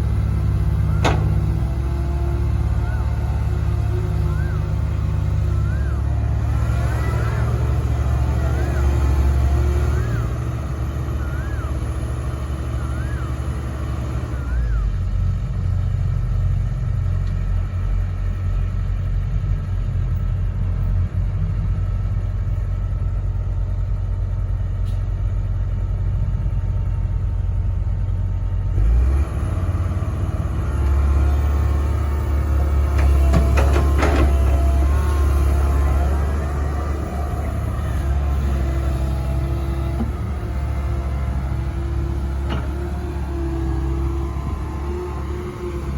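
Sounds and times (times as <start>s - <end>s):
excavator diesel engine under load: 0.0s - 45.9s.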